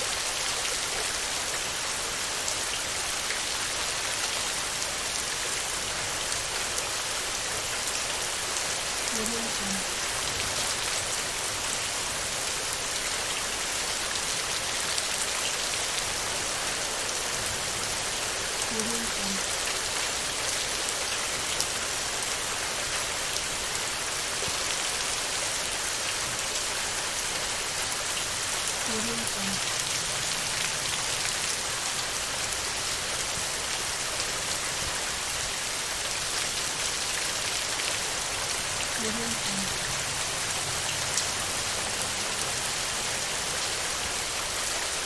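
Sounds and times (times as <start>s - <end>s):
heavy rain on a tin roof: 0.0s - 45.0s.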